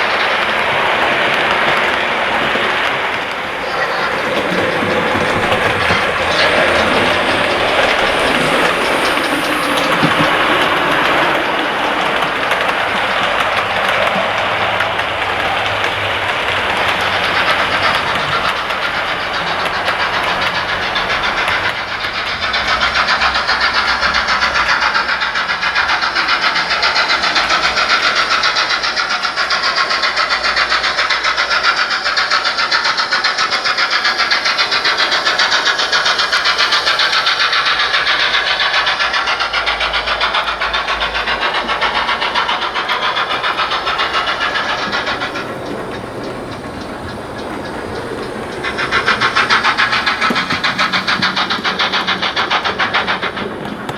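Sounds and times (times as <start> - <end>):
model steam locomotive exhaust beats: 0.0 - 53.9.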